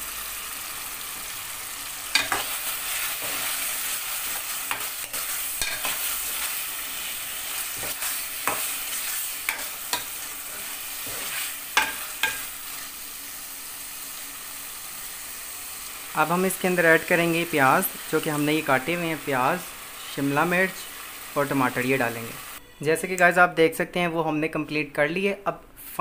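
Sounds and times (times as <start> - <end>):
sauce sizzling in a metal pot: 0.0 - 22.6.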